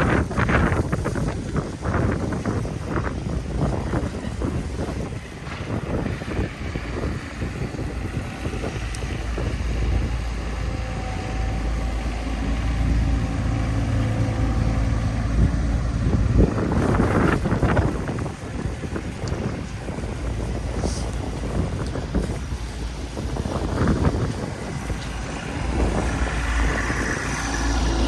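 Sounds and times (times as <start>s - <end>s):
faint engine whine: 0.0s - 28.0s
large vehicle engine running: 0.0s - 28.0s
wind buffeting microphone: 0.0s - 28.0s.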